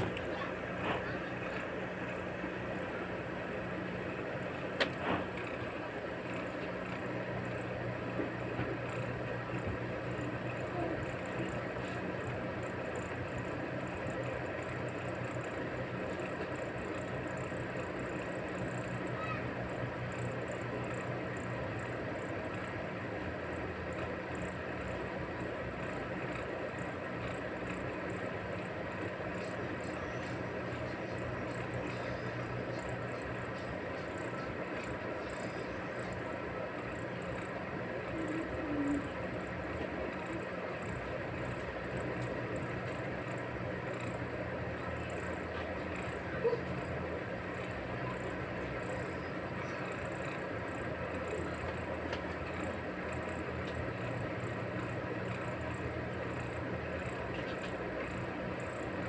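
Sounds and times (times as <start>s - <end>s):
high-pitched whine: 0.0s - 59.0s
low steady hum: 0.0s - 59.0s.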